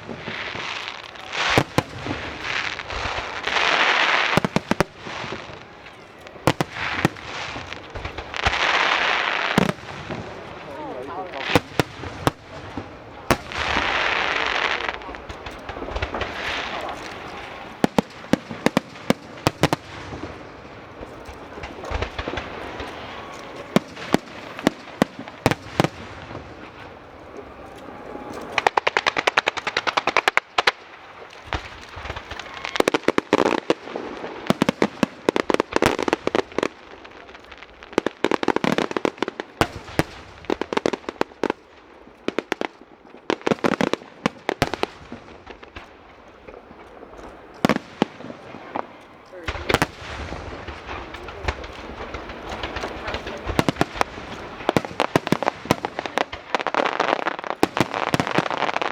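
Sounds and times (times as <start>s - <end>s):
fireworks crackling: 0.0s - 58.9s
fireworks shells bursting: 0.0s - 58.9s.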